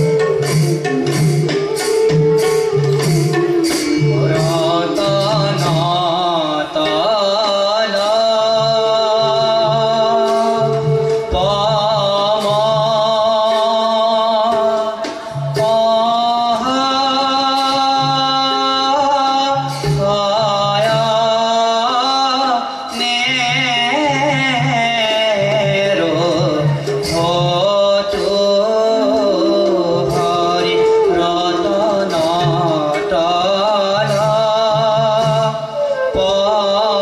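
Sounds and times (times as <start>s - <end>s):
bamboo flute: 0.0s - 37.0s
drum strokes: 0.0s - 37.0s
man singing: 3.5s - 37.0s.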